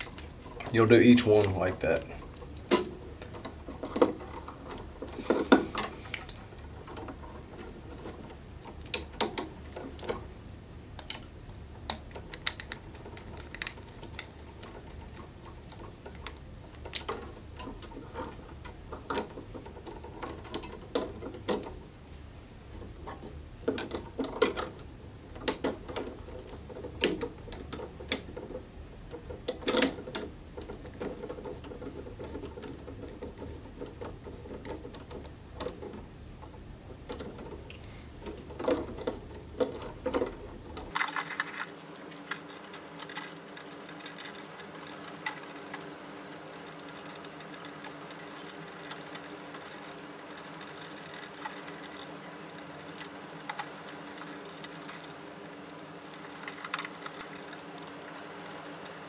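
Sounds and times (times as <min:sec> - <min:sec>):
clicks and taps of wiring: 0:00.0 - 0:10.3, 0:11.0 - 0:21.8, 0:23.0 - 0:59.0.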